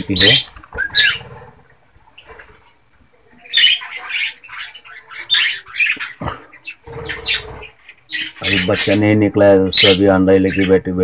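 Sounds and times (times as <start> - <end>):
budgerigars squawking and chattering: 0.0 - 2.7, 3.4 - 10.9.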